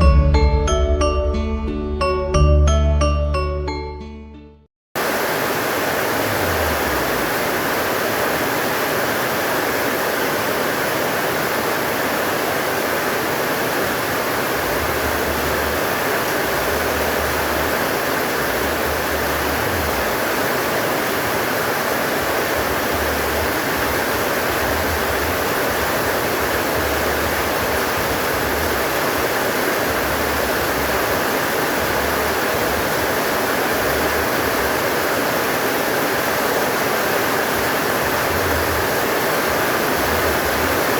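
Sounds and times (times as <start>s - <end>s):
heavy rain pouring: 5.0s - 40.9s.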